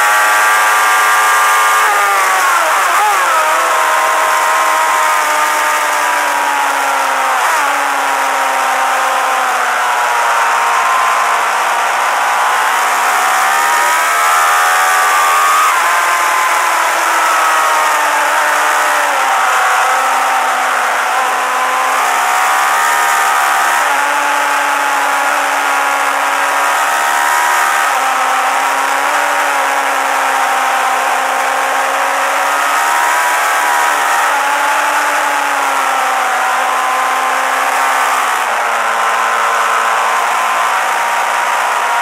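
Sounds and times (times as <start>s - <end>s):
motorcycle engine revving high: 0.0s - 42.0s.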